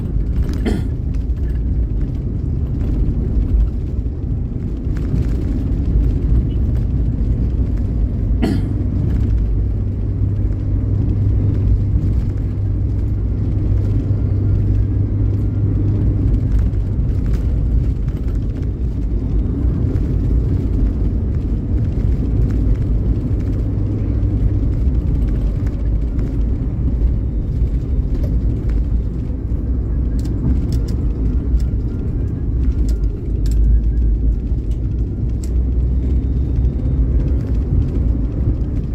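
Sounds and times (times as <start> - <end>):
vehicle engine and tyre rumble: 0.0 - 38.9.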